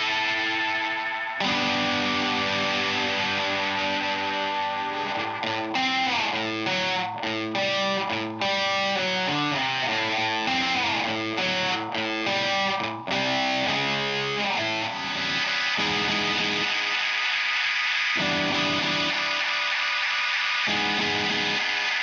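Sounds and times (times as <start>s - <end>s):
fuzz electric guitar with echo: 0.0s - 22.0s.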